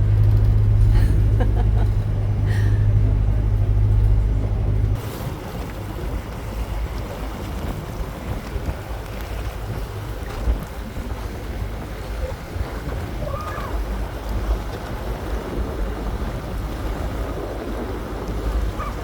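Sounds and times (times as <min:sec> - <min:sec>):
boat diesel engine droning: 0:00.0 - 0:19.0
waves on open water: 0:00.0 - 0:19.0
wind: 0:00.0 - 0:19.0.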